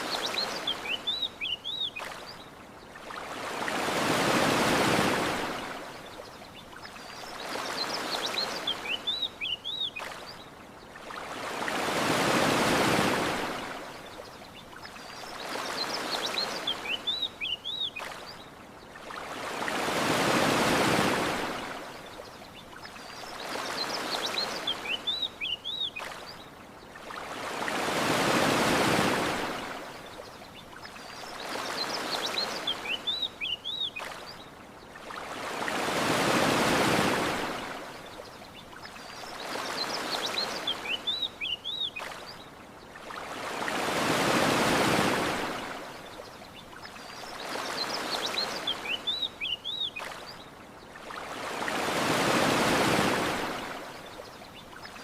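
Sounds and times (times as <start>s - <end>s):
ocean waves washing onto shore: 0.0s - 55.0s.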